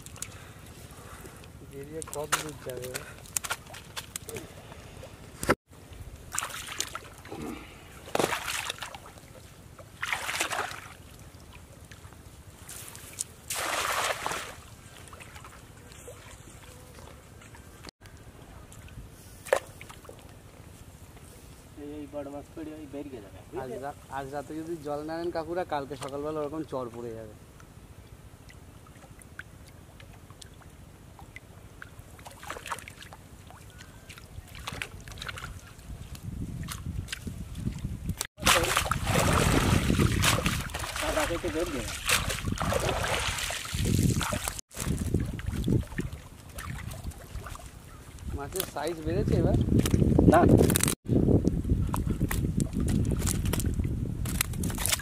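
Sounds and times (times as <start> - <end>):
water splashing and sloshing: 0.0 - 21.1, 28.3 - 51.0, 51.8 - 55.0.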